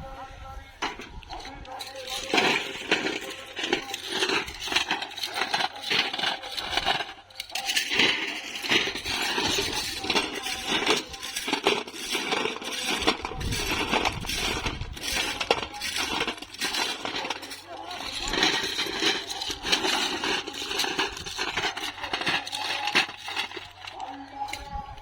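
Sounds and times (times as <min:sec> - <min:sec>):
ballast stones clattering: 0:00.8 - 0:25.0.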